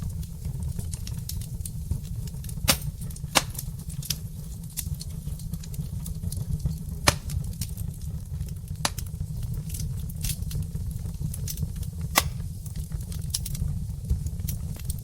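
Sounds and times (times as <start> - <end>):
burning logs crackling and popping: 0.0 - 15.0
fire rumbling: 0.0 - 15.0.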